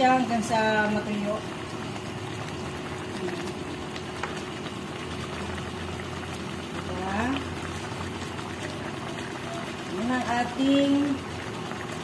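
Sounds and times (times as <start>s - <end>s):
sauce simmering and bubbling: 0.0s - 12.0s.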